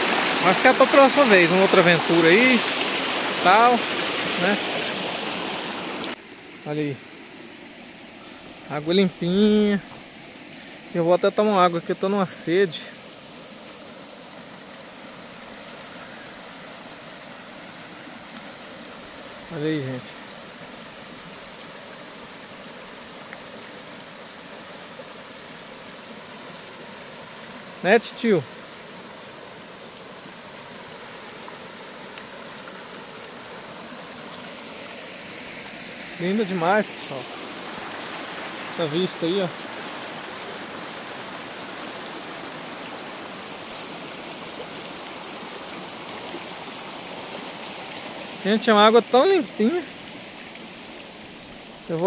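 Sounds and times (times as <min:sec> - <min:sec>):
stream running over stones: 0:00.0 - 0:52.0.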